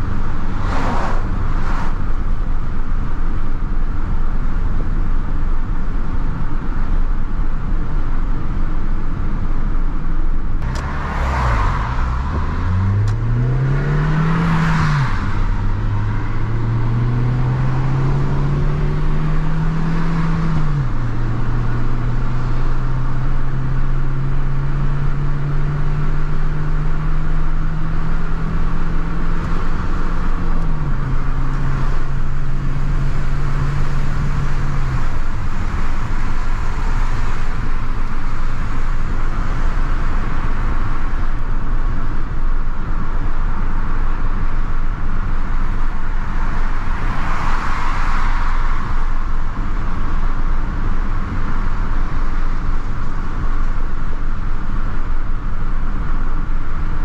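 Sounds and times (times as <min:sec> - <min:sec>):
car engine accelerating: 0:00.0 - 0:04.1, 0:10.6 - 0:57.0
road and tyre noise: 0:00.0 - 0:57.0.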